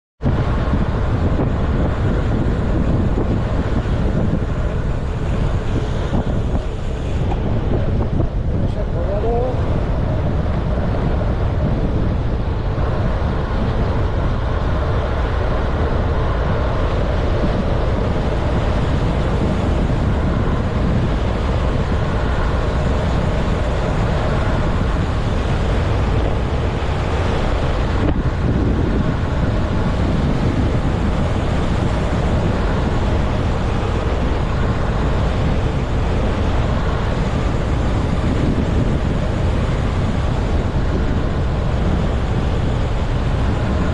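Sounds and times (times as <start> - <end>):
road rumble from wheels: 0.2 - 43.9
wind rushing over microphone: 0.2 - 43.9.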